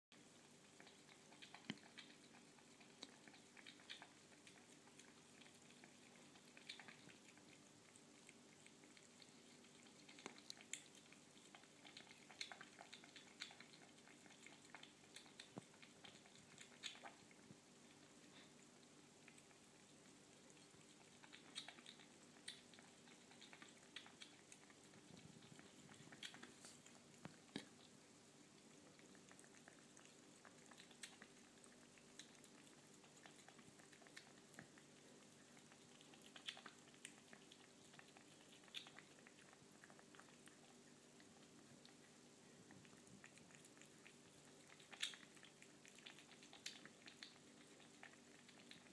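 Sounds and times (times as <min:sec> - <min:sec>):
kitten lapping milk: 0:00.1 - 0:48.9
low steady hum: 0:00.1 - 0:48.9.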